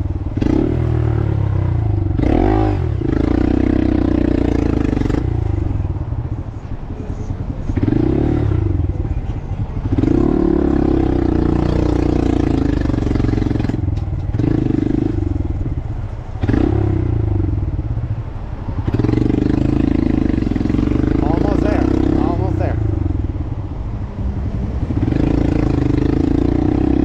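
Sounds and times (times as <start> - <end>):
motorcycle engine under throttle: 0.0 - 5.9, 7.7 - 9.1, 9.8 - 17.8, 18.8 - 23.4, 24.8 - 27.0.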